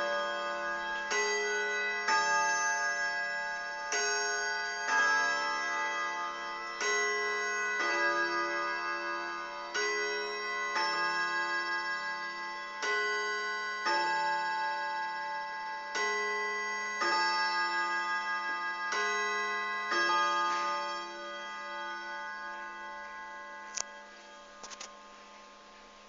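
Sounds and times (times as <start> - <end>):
clock gong striking: 0.0 - 25.2.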